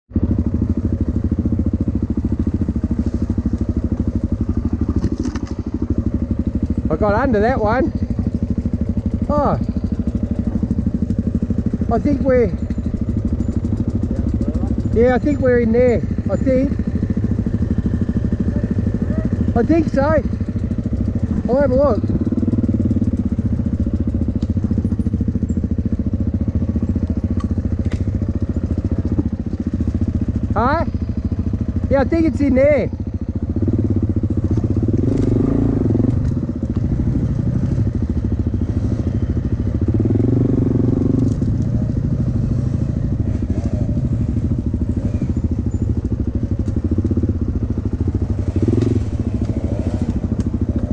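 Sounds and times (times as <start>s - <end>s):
dirt bike engine running: 0.1s - 50.9s.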